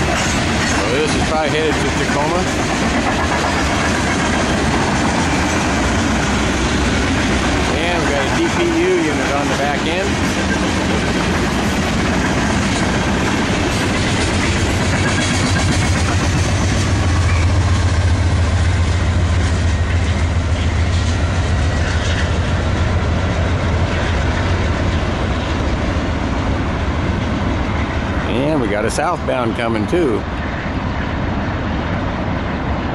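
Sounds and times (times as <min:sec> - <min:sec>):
diesel locomotive engine drone: 0:00.0 - 0:32.9
train wheels on rails: 0:00.0 - 0:32.9.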